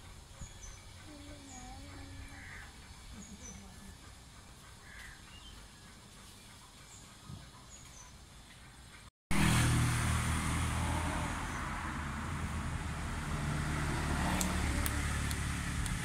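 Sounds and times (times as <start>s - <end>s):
low engine hum with hiss: 0.0s - 16.0s.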